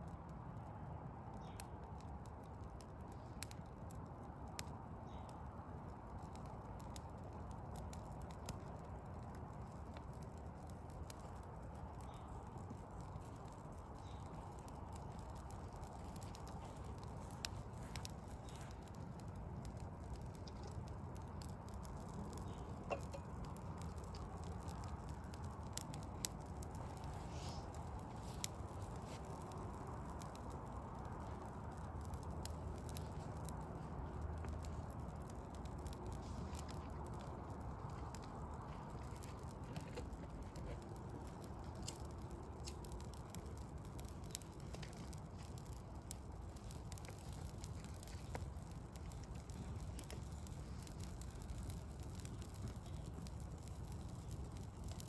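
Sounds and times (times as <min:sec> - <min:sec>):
distant city rumble: 0:00.0 - 0:55.0
wood fire crackling and popping: 0:00.0 - 0:55.0.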